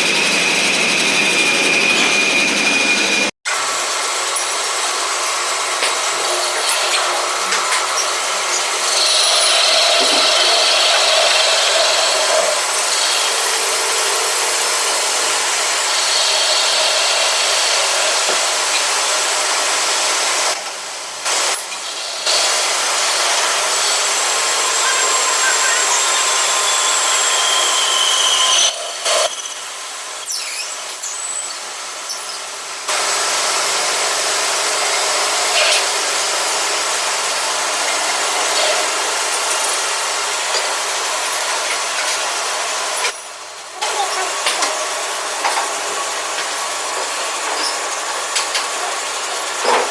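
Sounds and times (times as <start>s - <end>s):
machine tool grinding metal: 3.6s - 20.6s, 21.3s - 49.9s.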